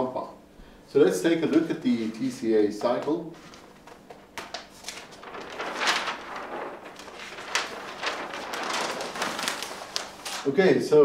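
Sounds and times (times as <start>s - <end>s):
paper sheets rustling: 1.3s - 10.6s.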